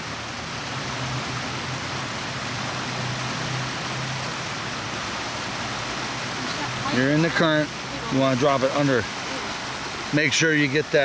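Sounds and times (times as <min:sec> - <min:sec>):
water rushing in a creek: 0:00.0 - 0:11.0.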